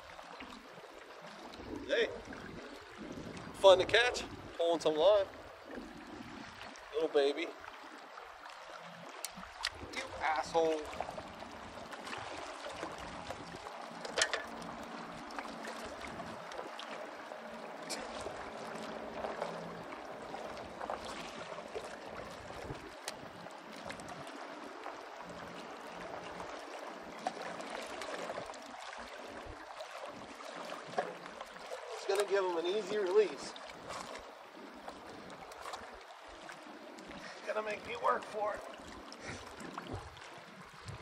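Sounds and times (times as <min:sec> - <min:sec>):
waves lapping on rocks: 0:01.2 - 0:41.0.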